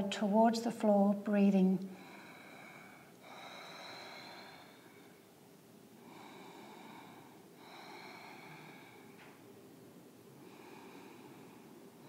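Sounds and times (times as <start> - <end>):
slow throaty breathing: 1.9 - 12.0.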